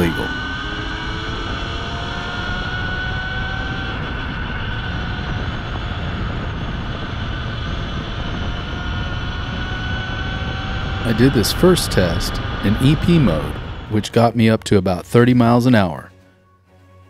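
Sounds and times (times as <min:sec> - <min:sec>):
electric motor whining: 0:00.0 - 0:14.1
wind rumble: 0:00.0 - 0:16.1.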